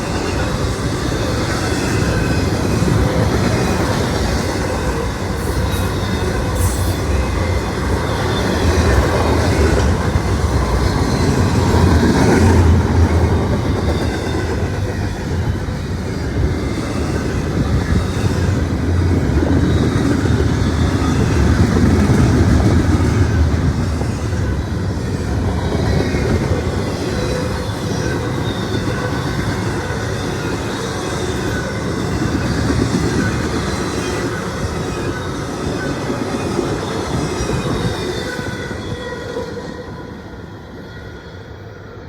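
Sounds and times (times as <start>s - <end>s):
high wheel squeal: 0.0s - 41.5s
train wheels rumbling on rail: 0.0s - 42.0s.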